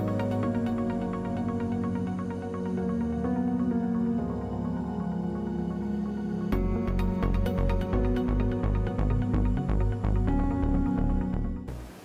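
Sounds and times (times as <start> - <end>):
synth pad chords: 0.0 - 12.0.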